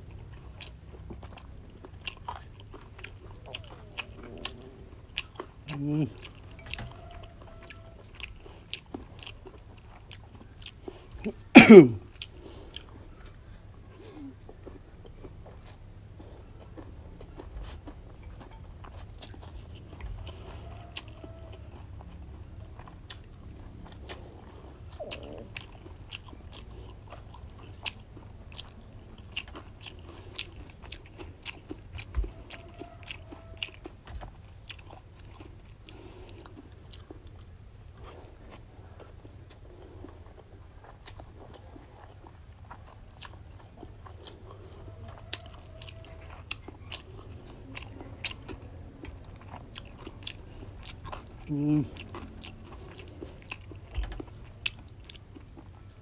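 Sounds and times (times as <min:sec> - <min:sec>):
chewing and crunching noodles: 0:00.0 - 0:56.0.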